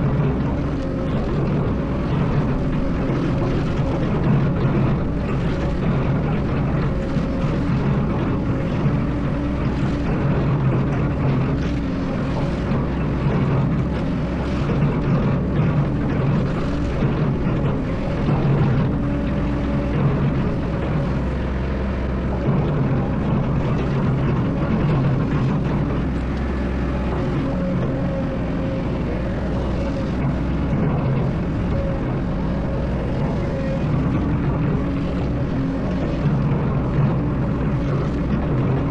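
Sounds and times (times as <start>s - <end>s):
excavator diesel engine drone: 0.0s - 38.9s.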